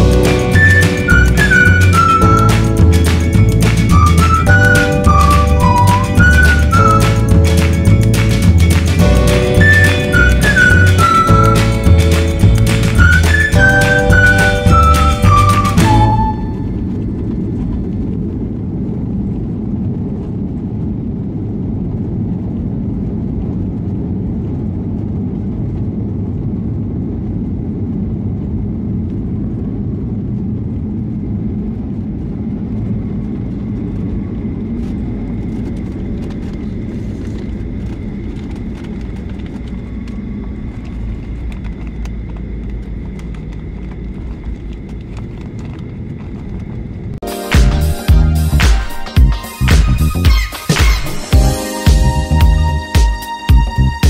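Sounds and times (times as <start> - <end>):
faint steady whine: 0.0 - 47.2
airliner cabin rumble: 0.0 - 54.0.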